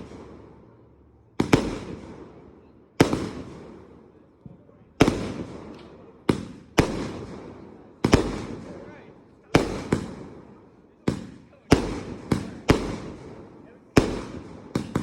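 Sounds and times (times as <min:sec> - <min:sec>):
fireworks bangs echoing: 0:00.0 - 0:15.0.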